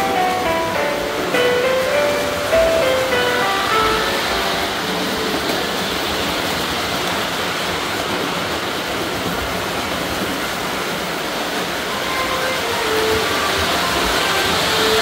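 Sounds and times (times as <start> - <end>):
model train rolling on track: 0.0 - 15.0.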